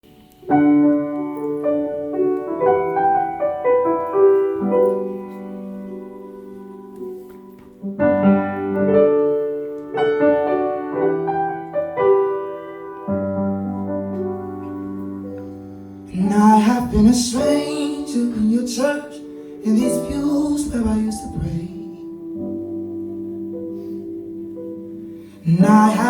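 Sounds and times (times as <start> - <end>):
slow piano: 0.0 - 26.0.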